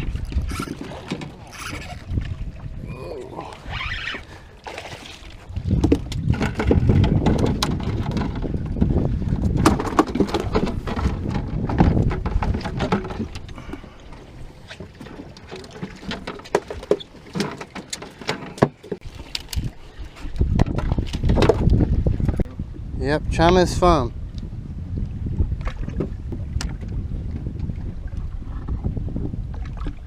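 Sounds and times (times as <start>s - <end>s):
wind rumbling on microphone: 0.0s - 17.0s, 19.0s - 30.0s.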